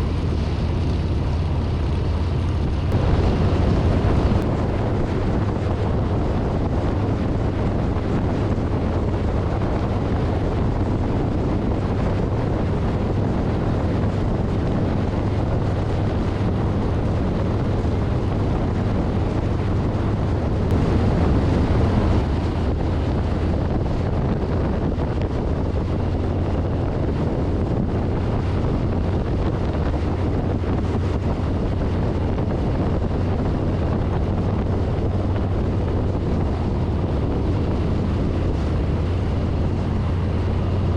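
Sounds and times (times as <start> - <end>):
motorcycle engine rumble: 0.0 - 40.9
wind noise on microphone: 0.0 - 40.9.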